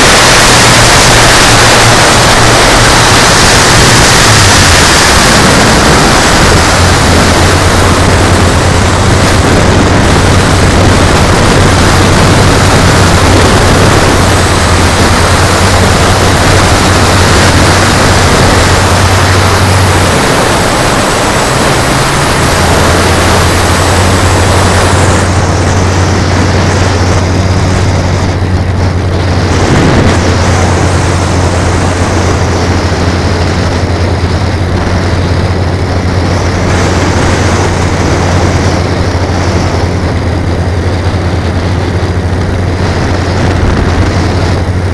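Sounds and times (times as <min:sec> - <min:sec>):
loud rushing noise: 0:00.0 - 0:44.9
model plane engines droning: 0:00.0 - 0:44.9.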